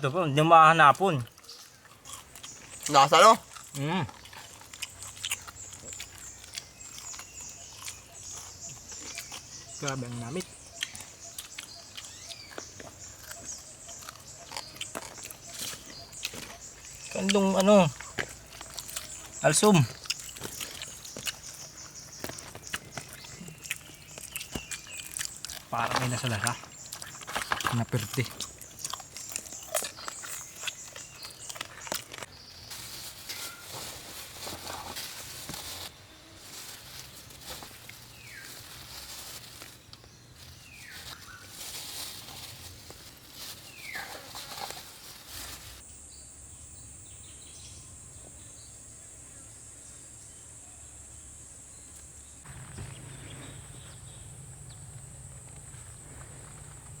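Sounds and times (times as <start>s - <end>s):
rustling and crackling: 0.8s - 45.8s, 52.4s - 57.0s.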